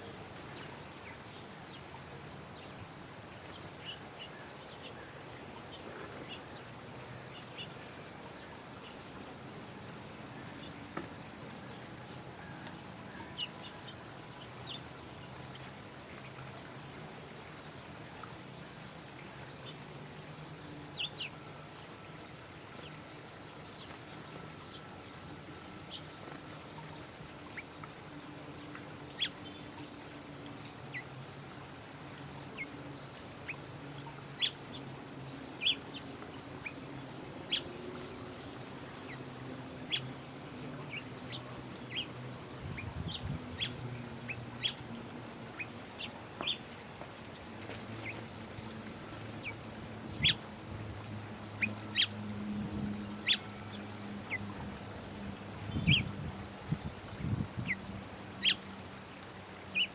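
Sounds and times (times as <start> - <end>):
wild birds chirping: 0.0 - 59.9.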